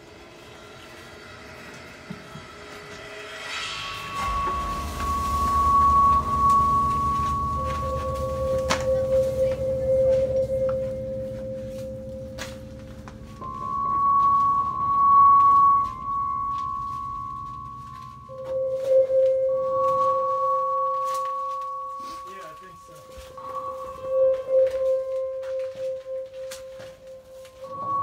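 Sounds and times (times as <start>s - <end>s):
low rumble: 0.0s - 28.0s
singing bowl tones: 0.0s - 28.0s.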